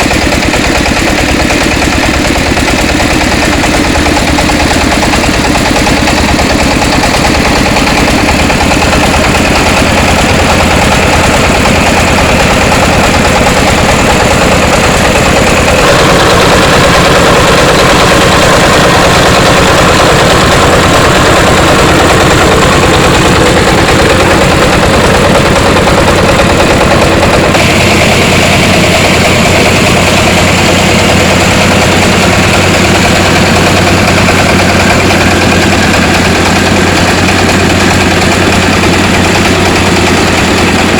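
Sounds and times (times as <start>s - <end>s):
loud engine running: 0.0s - 40.9s.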